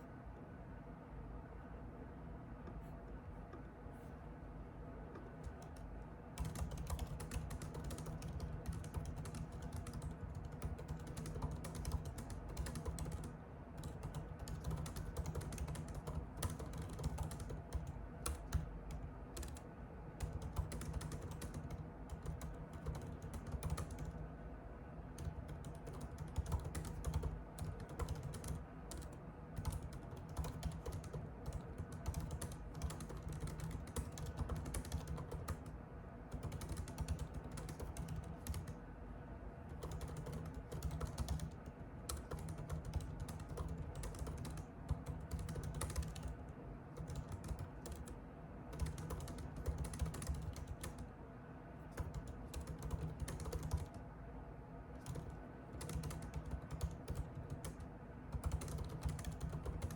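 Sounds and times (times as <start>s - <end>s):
typing on a computer keyboard: 5.2s - 24.3s, 25.1s - 38.8s, 39.7s - 51.1s, 51.9s - 54.0s, 54.9s - 59.9s.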